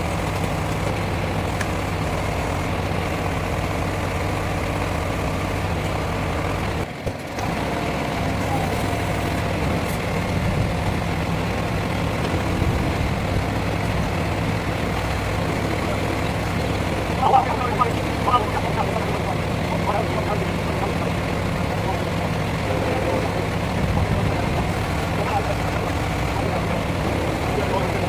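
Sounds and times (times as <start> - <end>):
diesel lorry engine running: 0.0 - 28.0.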